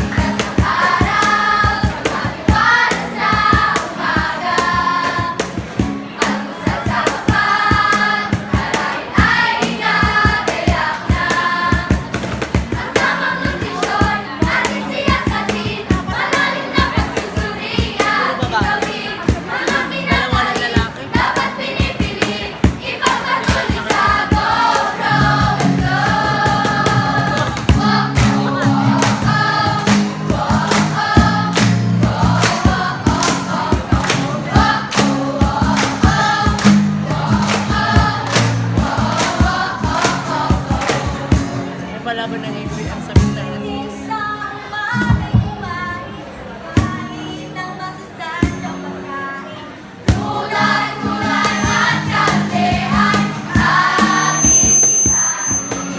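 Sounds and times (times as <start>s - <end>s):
choir singing a jingle: 0.0s - 5.6s, 6.2s - 41.6s, 50.1s - 55.9s
accompaniment with steady beat: 0.0s - 41.9s, 50.1s - 55.9s.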